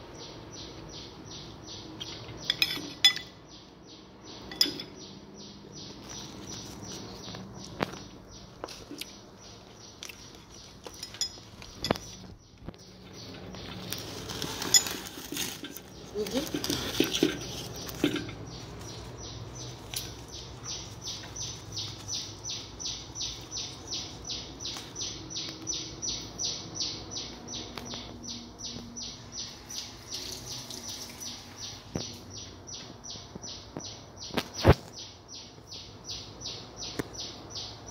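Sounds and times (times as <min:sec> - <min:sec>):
bird chirping: 0:00.0 - 0:37.9.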